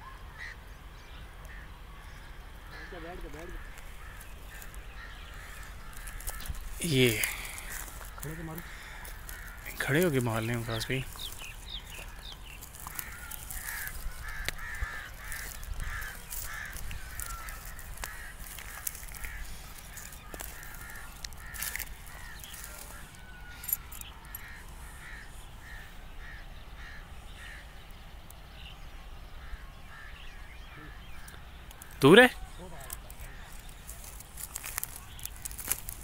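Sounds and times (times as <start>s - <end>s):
bird calling: 0.0s - 36.0s.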